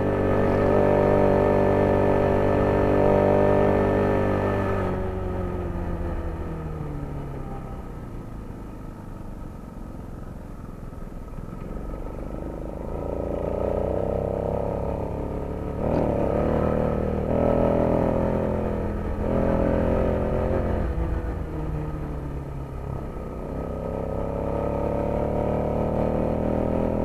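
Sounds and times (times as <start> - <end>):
vehicle engine revving: 0.0 - 7.2, 12.4 - 27.0
city traffic: 0.0 - 27.0.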